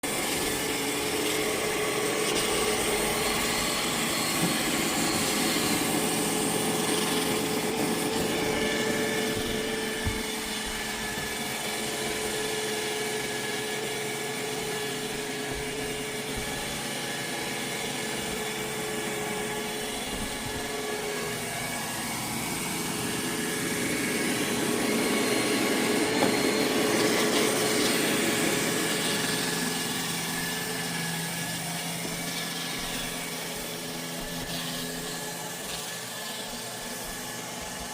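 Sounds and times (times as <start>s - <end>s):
robot vacuum running: 0.0s - 37.9s.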